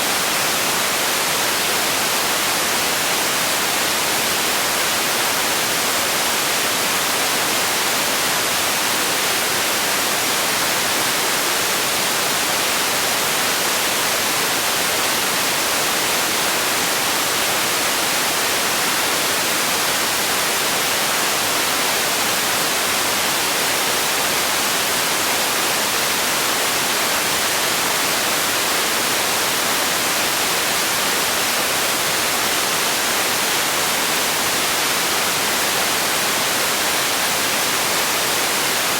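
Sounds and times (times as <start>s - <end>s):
electronic white noise hiss: 0.0s - 38.9s.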